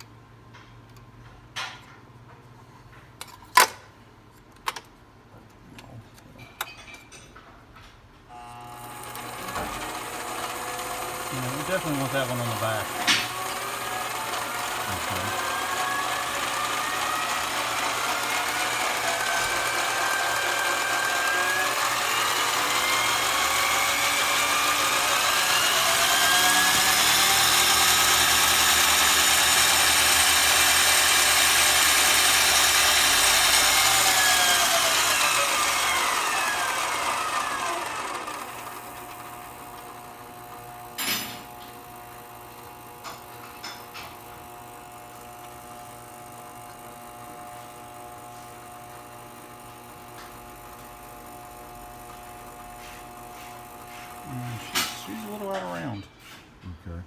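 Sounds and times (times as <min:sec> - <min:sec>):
lathe whine: 0:08.3 - 0:56.0.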